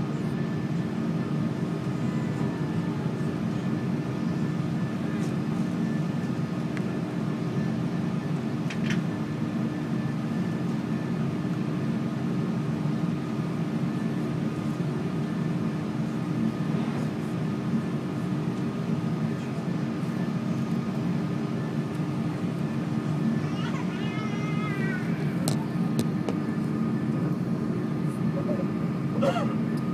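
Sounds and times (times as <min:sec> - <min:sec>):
aircraft cabin hum: 0:00.1 - 0:29.9.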